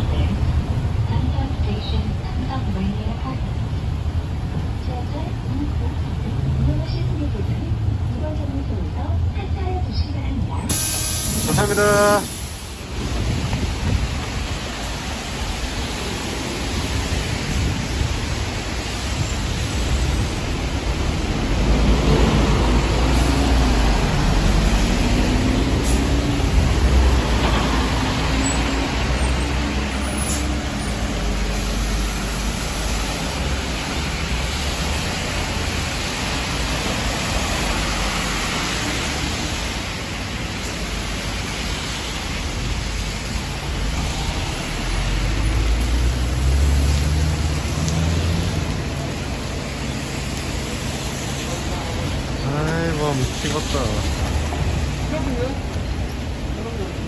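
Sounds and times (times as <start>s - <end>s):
bus engine rumble: 0.0s - 57.0s
tyres on wet road: 0.0s - 57.0s
heavy rain hissing: 10.7s - 57.0s.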